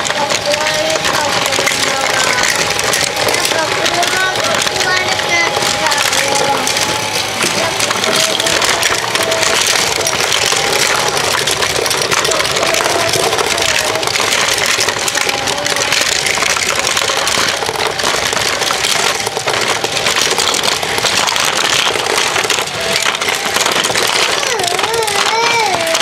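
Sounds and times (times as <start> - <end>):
toy cars clattering on plastic track: 0.0 - 26.0.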